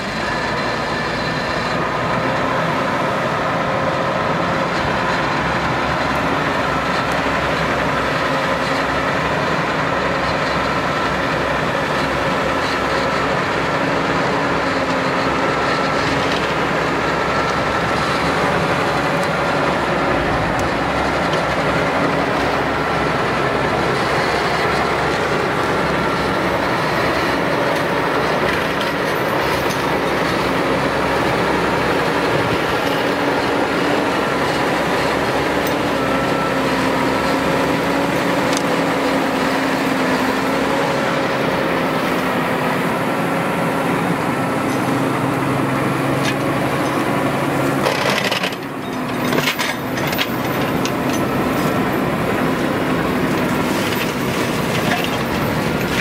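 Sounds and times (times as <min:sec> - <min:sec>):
tractor engine: 0:00.0 - 0:56.0.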